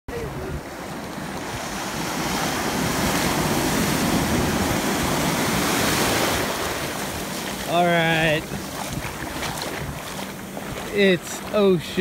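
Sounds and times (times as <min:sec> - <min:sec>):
small surf washing in: 0:00.1 - 0:12.0.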